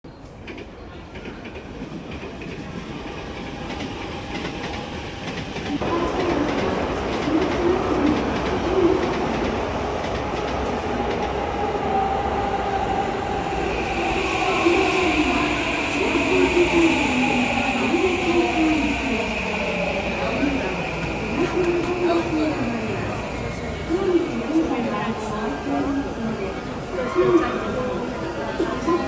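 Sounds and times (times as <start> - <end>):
rail noise: 0.1 - 29.0
train running: 0.2 - 29.0.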